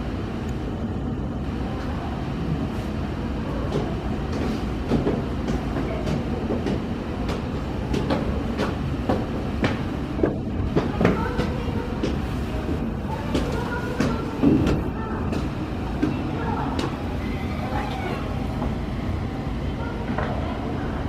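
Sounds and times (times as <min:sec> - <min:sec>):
jet airliner engines: 0:00.0 - 0:21.0.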